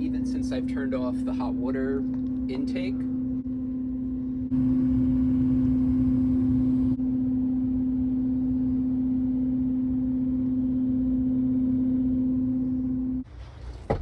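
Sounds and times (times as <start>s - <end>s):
rumble: 0.0s - 14.0s
steady low hum: 0.0s - 14.0s.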